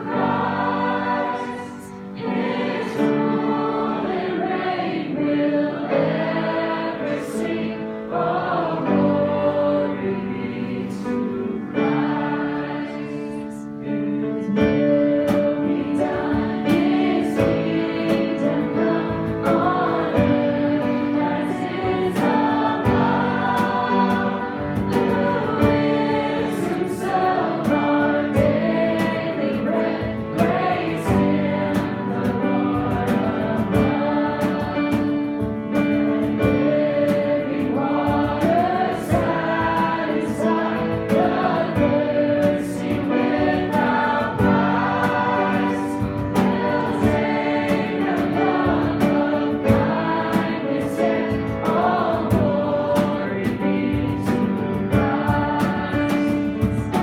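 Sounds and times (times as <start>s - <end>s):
voices singing together: 0.0s - 57.0s.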